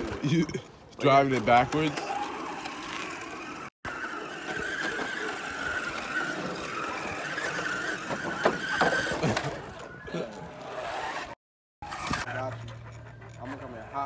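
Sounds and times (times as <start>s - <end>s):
electric motor whining: 1.6s - 13.9s.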